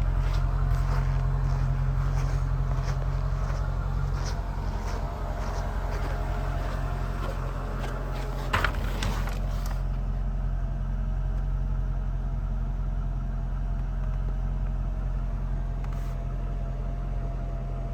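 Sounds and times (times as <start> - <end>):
car engine idling: 0.0 - 17.9
engine clatter: 0.0 - 17.9.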